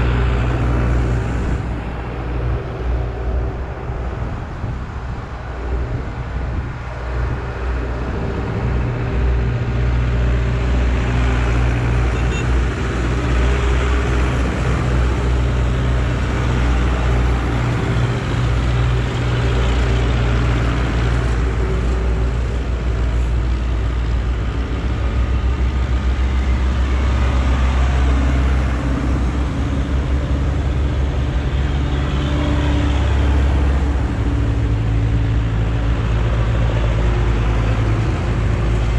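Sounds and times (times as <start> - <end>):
tractors driving past: 0.0 - 38.9.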